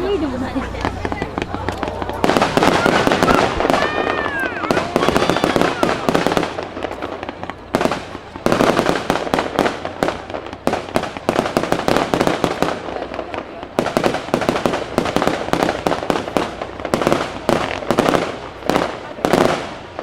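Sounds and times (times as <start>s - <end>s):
fireworks crackling: 0.0s - 20.0s
whistling fireworks: 0.6s - 20.0s.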